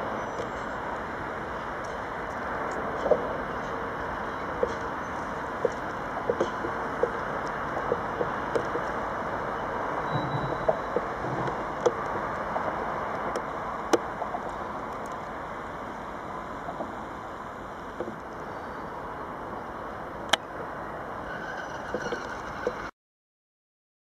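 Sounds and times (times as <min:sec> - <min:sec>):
rail yard background noise: 0:00.0 - 0:22.9.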